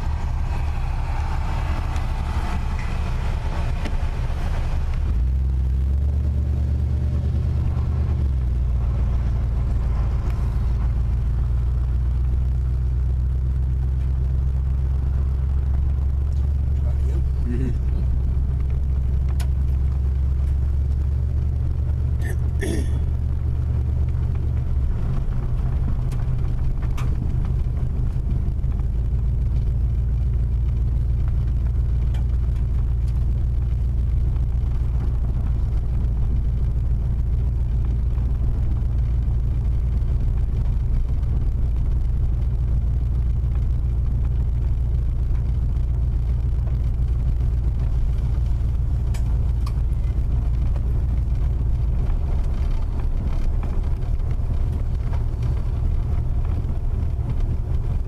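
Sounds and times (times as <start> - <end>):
car rumbling on dirt road: 0.0 - 58.0.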